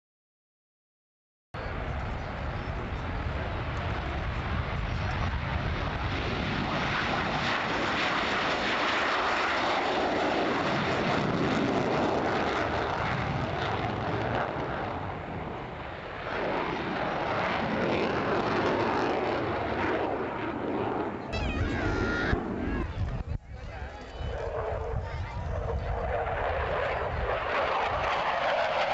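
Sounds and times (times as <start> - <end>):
jet engines roaring: 1.6 - 28.9.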